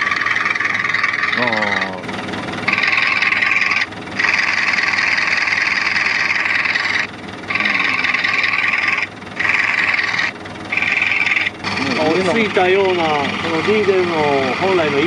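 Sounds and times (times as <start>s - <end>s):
boat diesel engine through phone speaker: 0.0s - 15.0s.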